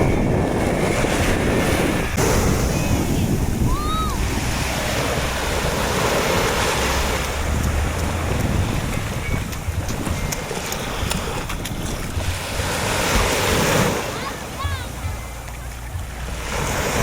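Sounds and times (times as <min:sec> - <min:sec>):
waves breaking on beach: 0:00.0 - 0:17.0
wind buffeting microphone: 0:00.0 - 0:17.0.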